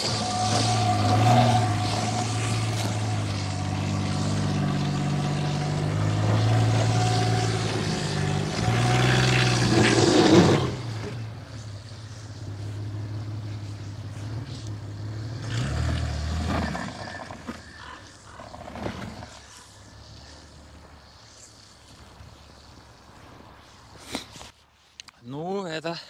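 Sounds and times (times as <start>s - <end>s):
car engine pulling under load: 0.0s - 23.1s
tyres spinning in snow and mud: 0.0s - 23.7s.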